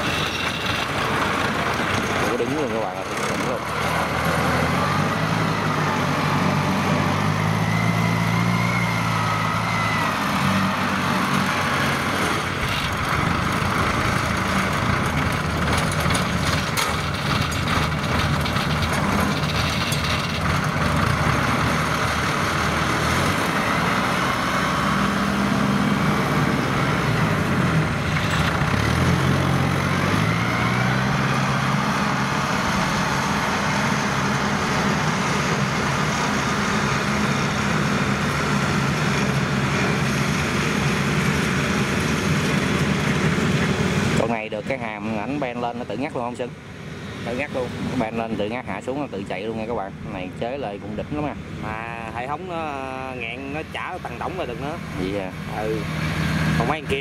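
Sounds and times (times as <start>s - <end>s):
combine harvester engine droning: 0.0s - 57.0s.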